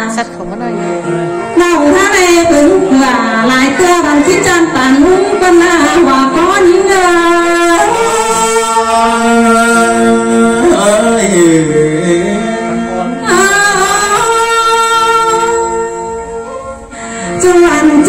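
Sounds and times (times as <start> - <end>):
person singing into a microphone: 0.0 - 18.0.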